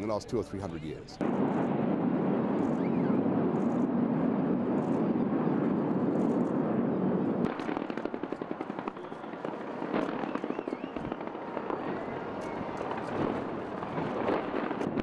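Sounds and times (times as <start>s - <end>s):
fireworks crackling: 1.2s - 15.0s.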